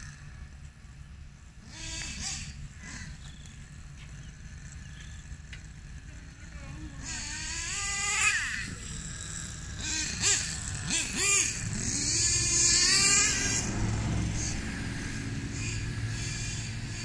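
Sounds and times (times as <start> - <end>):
nitro engine revving: 0.0 - 17.0.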